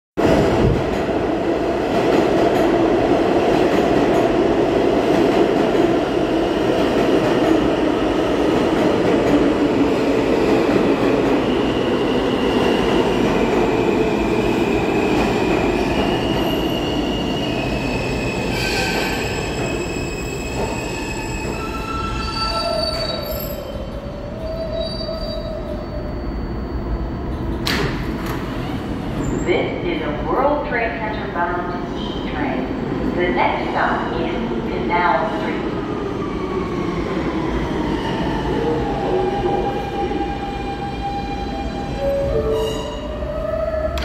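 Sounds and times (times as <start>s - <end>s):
subway train running whine: 0.2s - 44.0s.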